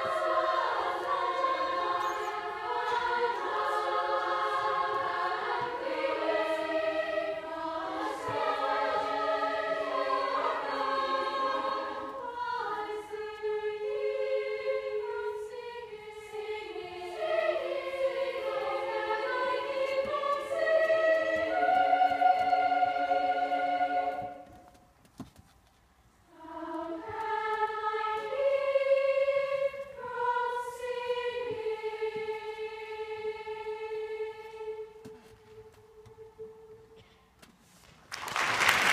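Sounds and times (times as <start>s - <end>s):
women's choir singing: 0.0s - 24.7s, 26.2s - 37.1s.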